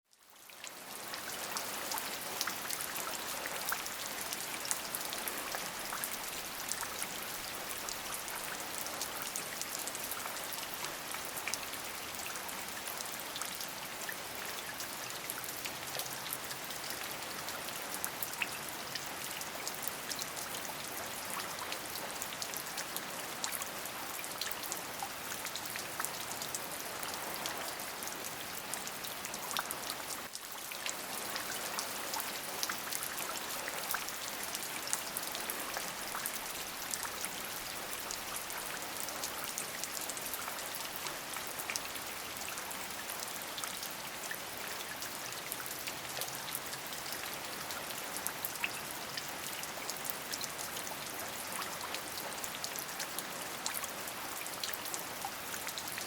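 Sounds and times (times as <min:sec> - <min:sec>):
rain falling: 0:00.1 - 0:56.0.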